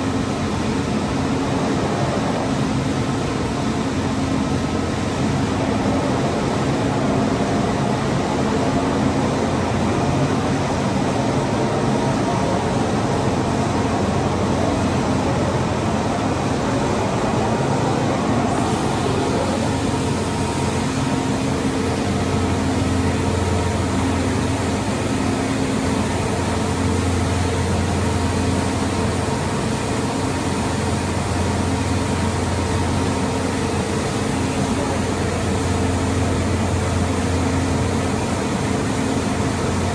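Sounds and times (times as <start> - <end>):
industrial equipment humming: 0.0 - 39.9.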